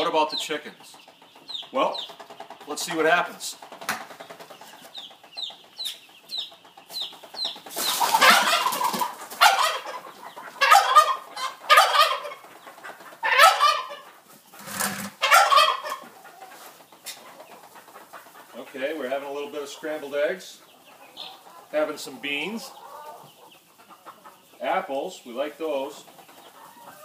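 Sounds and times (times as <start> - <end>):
hens clucking and squawking: 0.0 - 27.0.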